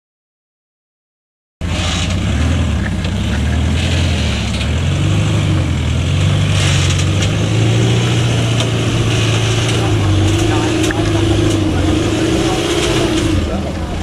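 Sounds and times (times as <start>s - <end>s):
truck engine at low revs: 1.6s - 14.0s.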